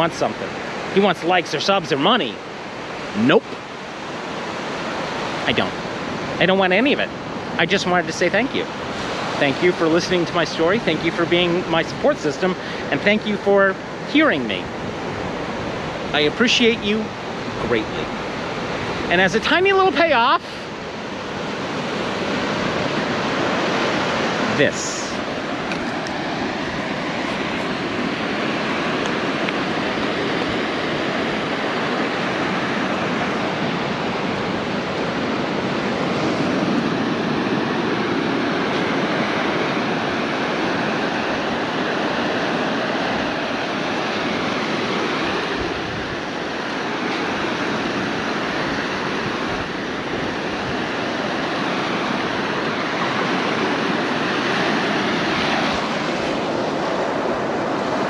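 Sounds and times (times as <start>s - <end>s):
ocean surf on rocky shore: 0.0s - 58.0s.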